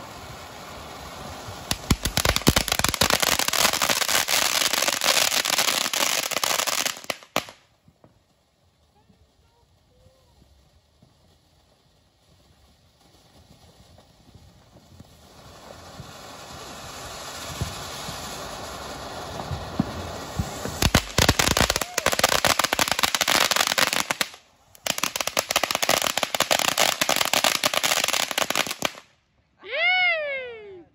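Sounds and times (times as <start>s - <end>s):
firework fountain hissing: 0.0s - 29.1s
firework crackling: 0.0s - 29.3s.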